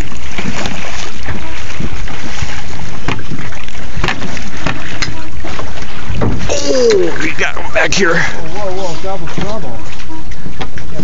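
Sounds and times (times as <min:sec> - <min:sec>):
wind buffeting microphone: 0:00.0 - 0:09.6
water splashing: 0:00.0 - 0:11.0.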